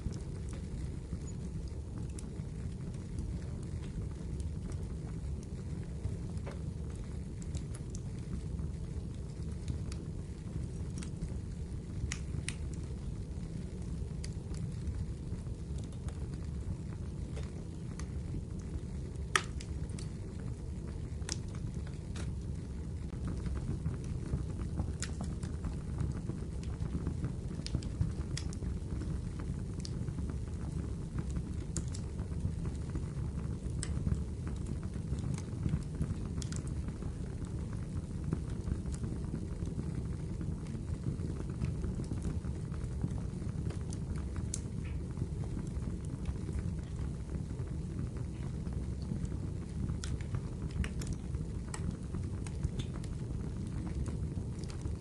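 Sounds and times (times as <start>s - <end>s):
fire popping and snapping: 0.0s - 55.0s
fire rumbling: 0.0s - 55.0s.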